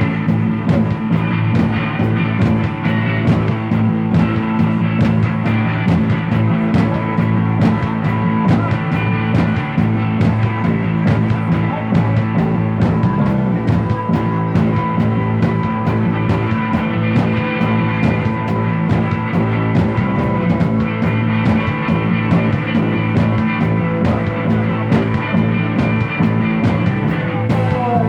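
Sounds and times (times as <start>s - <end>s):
instrumental psychedelic rock: 0.0s - 28.0s
low guitar or bass notes: 0.0s - 28.0s
steady drum beat: 0.0s - 28.0s.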